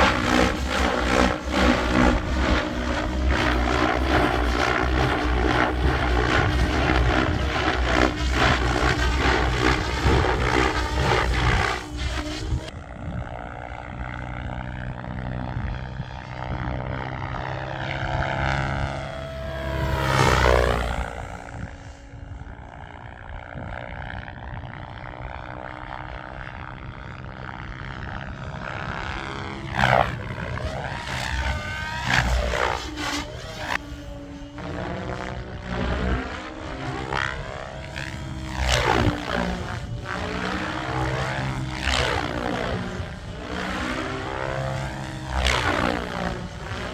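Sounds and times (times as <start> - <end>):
rc helicopter rotor whine: 0.0 - 46.9.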